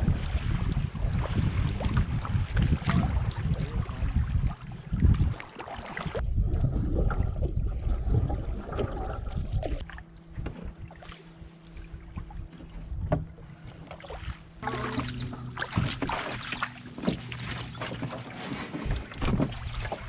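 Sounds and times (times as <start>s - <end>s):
water splashing along canoe hull: 0.0s - 20.0s
wind rumble on microphone: 0.0s - 20.0s.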